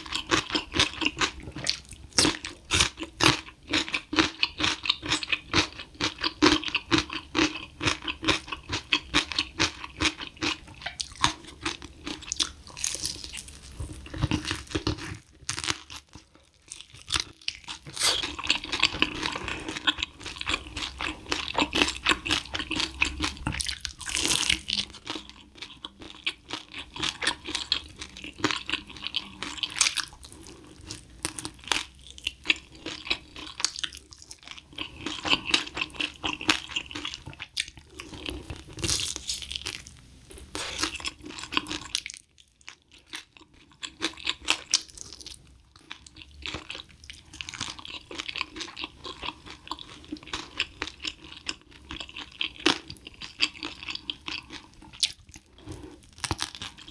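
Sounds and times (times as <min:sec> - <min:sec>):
crunching and chewing fried chicken: 0:00.0 - 0:56.9.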